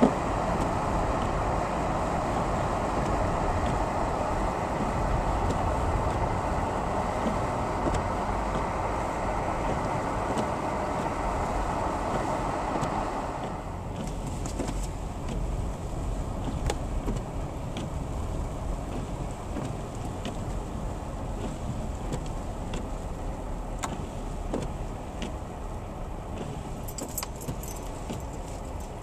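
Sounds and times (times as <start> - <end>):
car road noise: 0.0 - 29.0.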